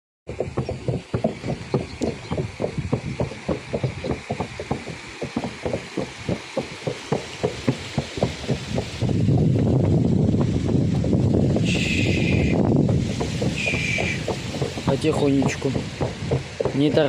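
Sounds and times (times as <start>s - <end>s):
horse hooves clopping on bridge: 0.3s - 17.0s.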